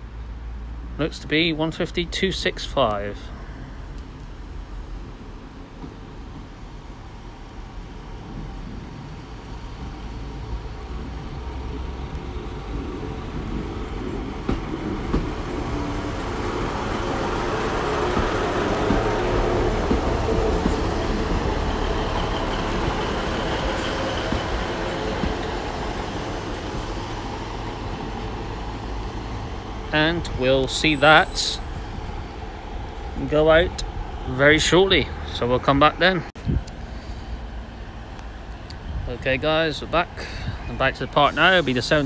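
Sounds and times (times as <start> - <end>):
train engine and wheel noise: 0.0 - 42.0.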